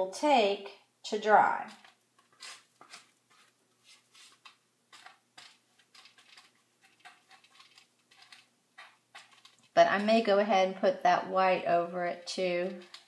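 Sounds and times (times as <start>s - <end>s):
paintbrush dabbing paint: 1.2s - 10.4s, 11.7s - 13.0s.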